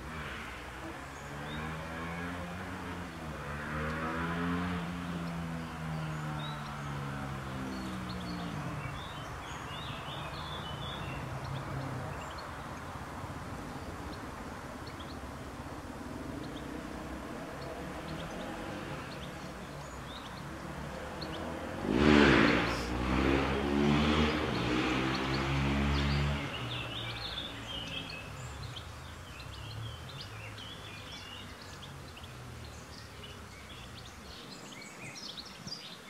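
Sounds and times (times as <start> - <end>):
vehicles passing on road: 0.0 - 36.0.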